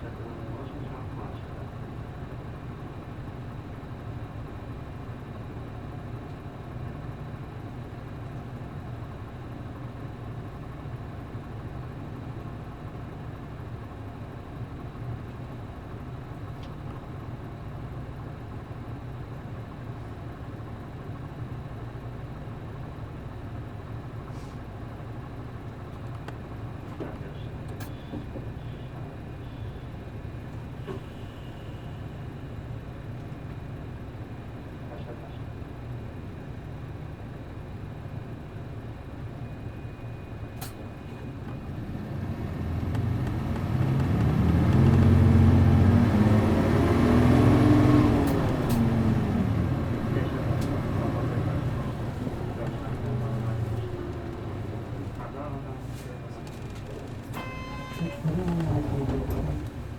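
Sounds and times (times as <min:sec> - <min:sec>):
bus diesel engine hum: 0:00.0 - 0:59.9.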